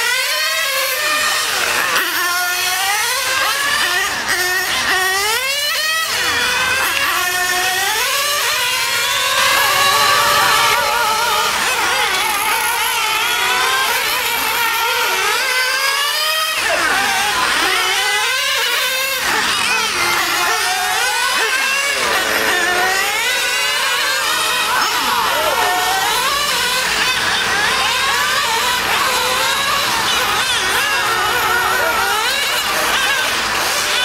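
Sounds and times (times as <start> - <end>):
small model engine running: 0.0 - 34.0.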